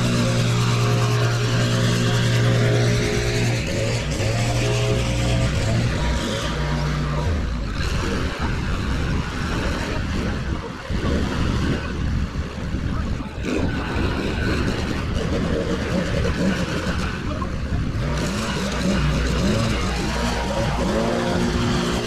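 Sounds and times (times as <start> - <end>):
small petrol engine running: 0.0 - 22.0.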